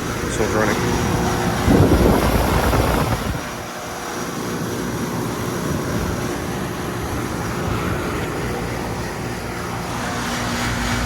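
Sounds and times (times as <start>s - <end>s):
air conditioner unit whirring: 0.0s - 11.0s.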